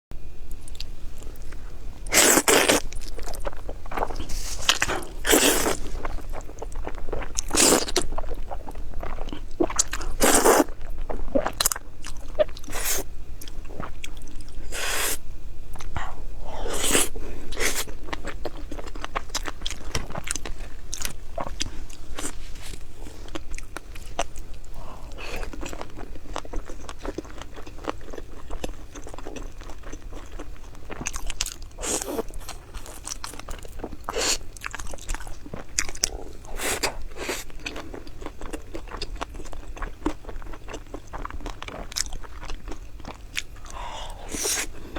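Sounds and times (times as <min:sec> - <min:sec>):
crunching crisp food: 0:00.6 - 0:44.9
person chewing: 0:00.6 - 0:44.9.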